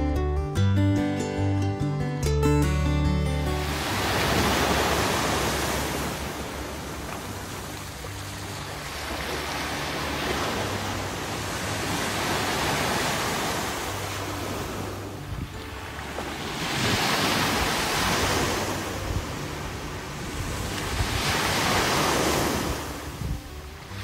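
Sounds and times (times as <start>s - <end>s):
waves breaking on a beach: 3.6s - 24.0s.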